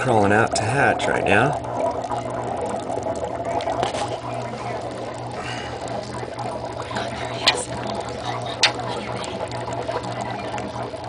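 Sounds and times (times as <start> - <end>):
aquarium low hum: 0.0 - 11.0
water trickling and bubbling: 0.0 - 11.0.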